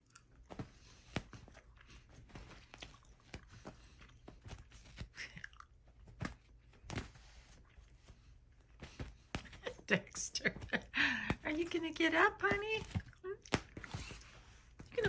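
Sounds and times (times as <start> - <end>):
soft clicks and crunches: 0.0 - 15.0.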